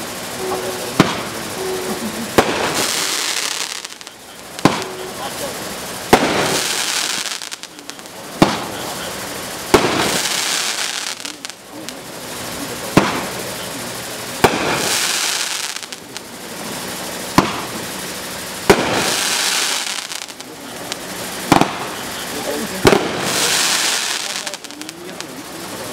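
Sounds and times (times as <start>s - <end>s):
firework burst with crackling hiss: 0.0s - 25.9s
firework launch crack: 0.0s - 25.9s.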